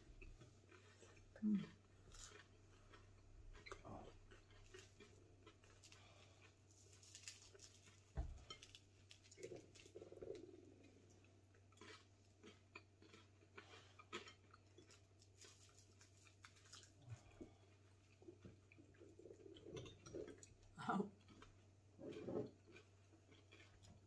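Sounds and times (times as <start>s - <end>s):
quiet chewing: 0.1s - 24.0s.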